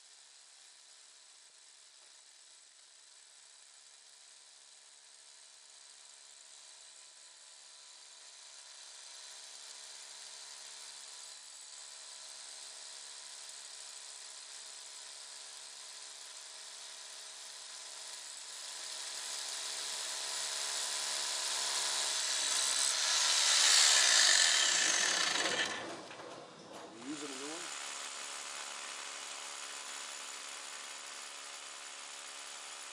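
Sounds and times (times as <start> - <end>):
hammer drill boring into concrete: 0.0 - 32.9.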